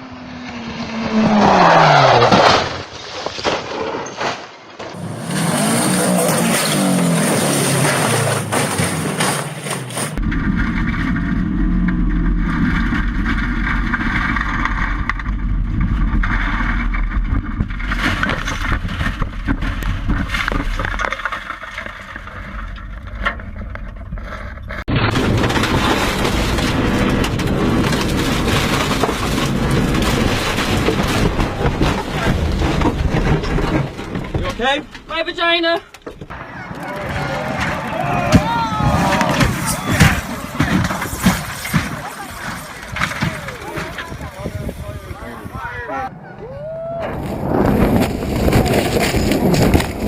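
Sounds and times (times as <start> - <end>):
car knocking and scraping: 0.4 - 45.9, 47.1 - 50.0
car engine rumble: 4.9 - 50.0.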